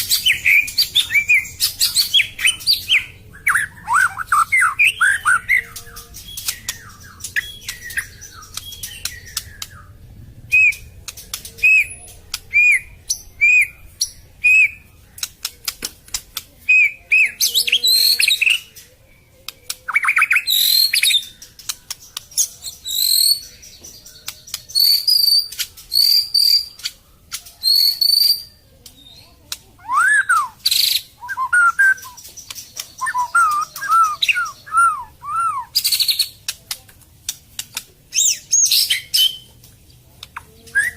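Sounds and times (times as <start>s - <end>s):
songbird singing varied song: 0.0s - 40.9s.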